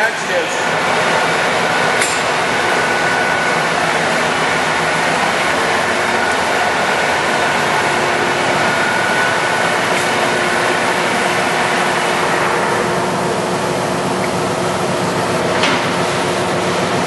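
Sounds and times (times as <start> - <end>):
faint steady whine: 0.0 - 15.4
lathe running: 0.0 - 17.0.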